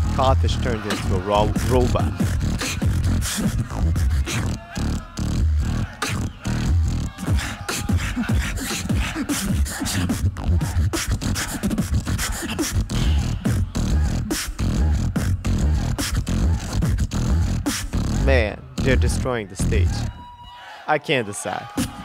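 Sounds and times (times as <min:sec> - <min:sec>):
beatboxing into a microphone: 0:00.0 - 0:20.1.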